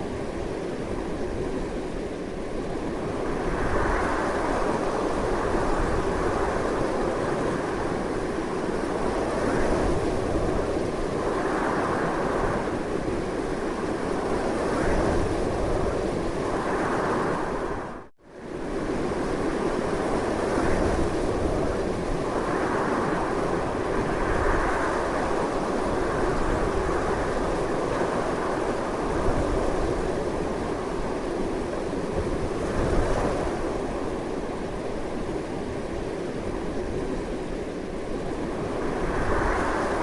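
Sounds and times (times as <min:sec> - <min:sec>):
strong wind blowing: 0:00.0 - 0:40.0.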